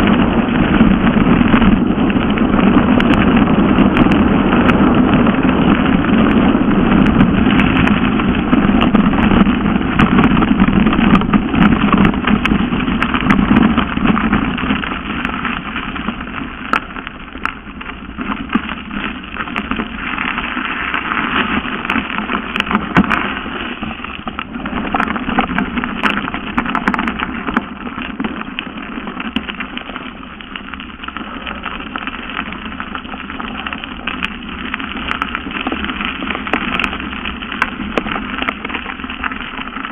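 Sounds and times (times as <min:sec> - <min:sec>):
bike rattling and clicking: 0:00.0 - 0:39.9
bike tyres crunching on gravel: 0:00.0 - 0:39.9
wind on microphone: 0:00.0 - 0:39.9.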